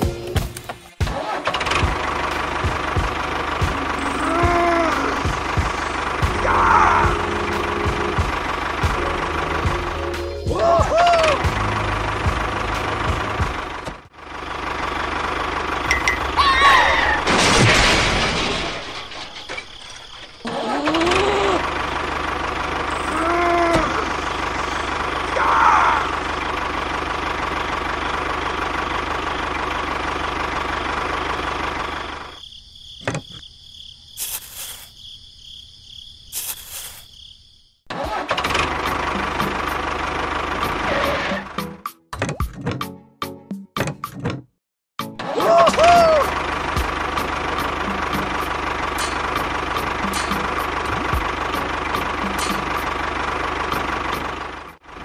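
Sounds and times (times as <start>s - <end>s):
tractor engine running: 0.0s - 33.4s, 37.9s - 42.9s, 45.0s - 55.0s.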